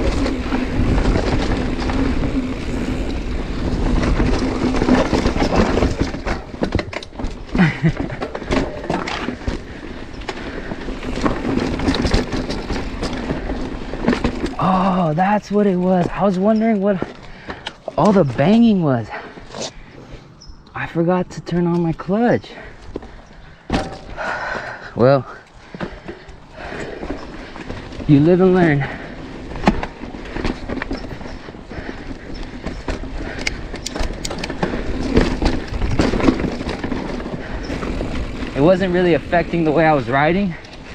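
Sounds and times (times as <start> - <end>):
bike clattering on dirt trail: 0.0 - 40.9
tyre noise: 0.0 - 40.9.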